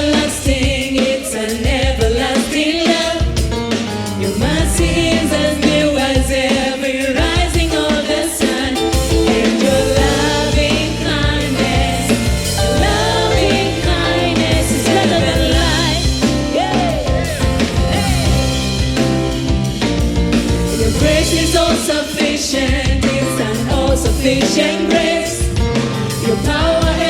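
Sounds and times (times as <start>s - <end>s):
band with bass and drums: 0.0s - 27.0s.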